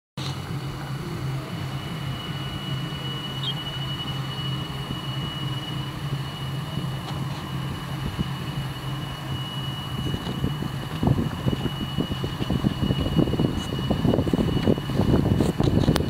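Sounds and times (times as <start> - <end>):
low engine hum: 0.2 - 16.0.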